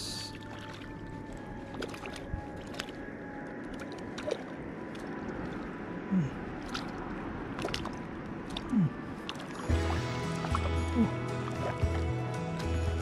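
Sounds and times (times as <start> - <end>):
water sloshing from thrashing fish: 0.0 - 12.3.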